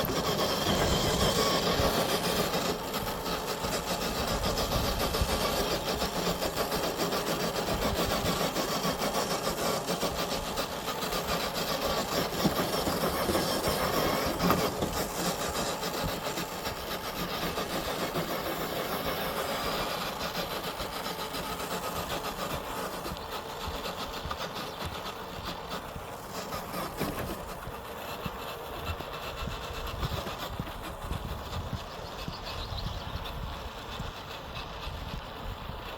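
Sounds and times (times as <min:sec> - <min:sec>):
toy truck electric motor whirring: 0:00.0 - 0:35.9.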